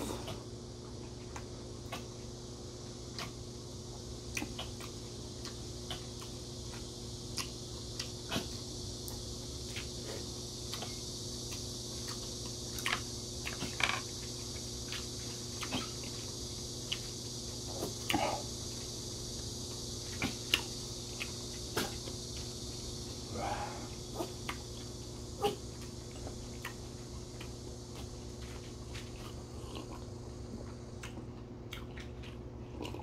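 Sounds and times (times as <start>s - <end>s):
electric fan humming: 0.0s - 33.0s.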